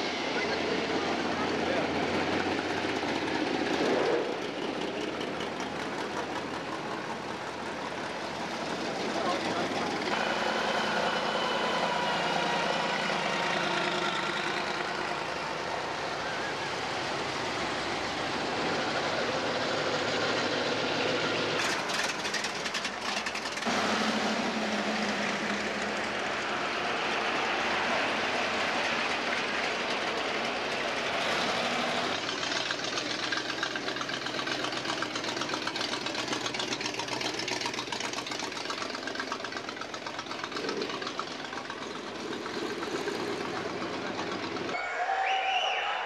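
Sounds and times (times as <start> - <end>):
supercharged car engine rumbling: 0.0 - 44.8.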